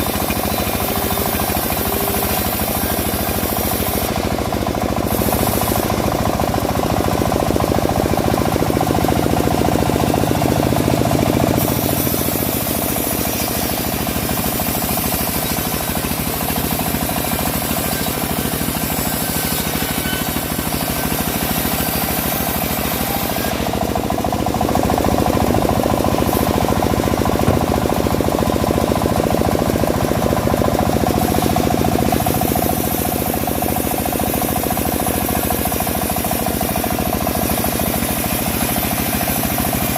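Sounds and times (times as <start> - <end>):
bandsaw sawing log high hiss: 0.0 - 39.9
fast knocking engine beat: 0.0 - 39.9.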